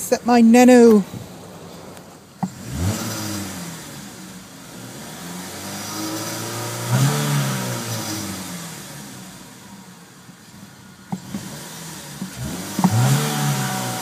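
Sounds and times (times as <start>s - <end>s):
car engine revving: 1.2s - 14.0s.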